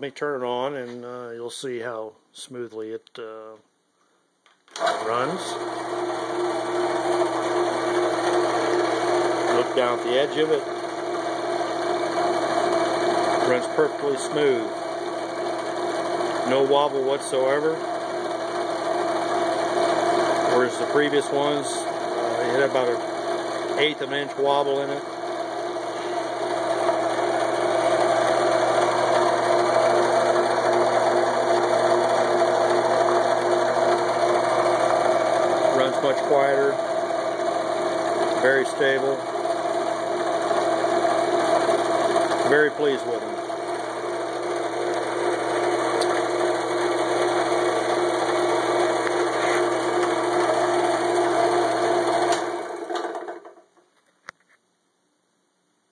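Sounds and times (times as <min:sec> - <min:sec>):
jigsaw humming steadily: 0:04.8 - 0:53.6.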